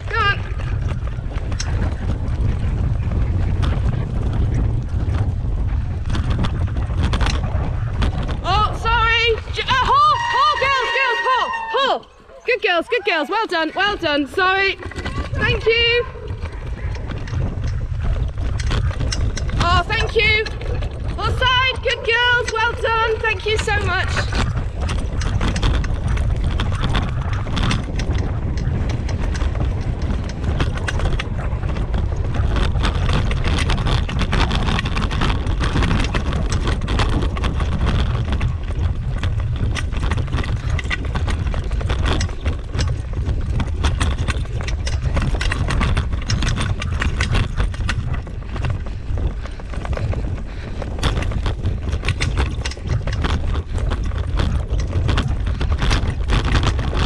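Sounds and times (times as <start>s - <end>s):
rattles and knocks: 0.0s - 10.9s, 12.5s - 57.0s
rig rumbling over dirt trail: 0.0s - 57.0s.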